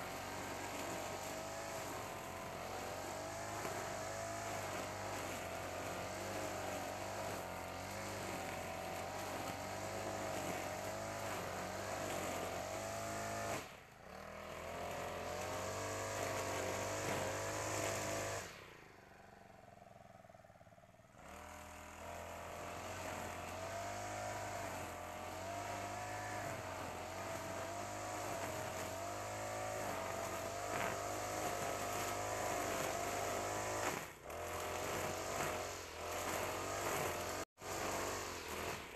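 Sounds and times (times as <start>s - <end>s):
brush cutter engine running: 0.0s - 38.9s
trimmer cutting grass: 0.0s - 38.9s.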